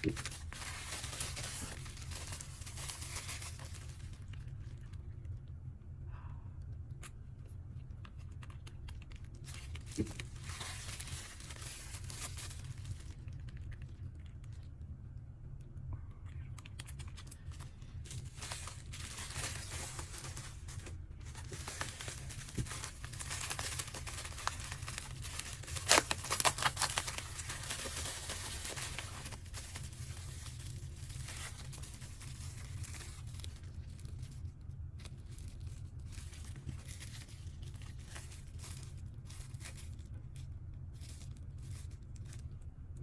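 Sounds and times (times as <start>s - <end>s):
packaging crinkling and tearing: 0.0s - 5.0s, 8.2s - 14.6s, 16.6s - 42.6s
steady low hum: 0.0s - 43.0s.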